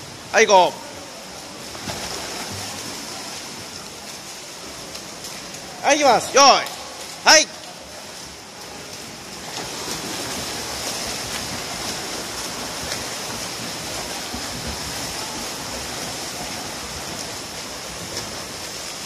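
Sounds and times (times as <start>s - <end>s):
swimmer splashing water: 0.0s - 19.0s.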